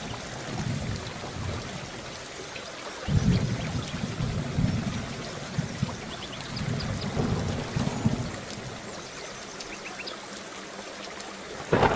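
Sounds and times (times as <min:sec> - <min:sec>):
steady rain falling: 0:00.0 - 0:11.9.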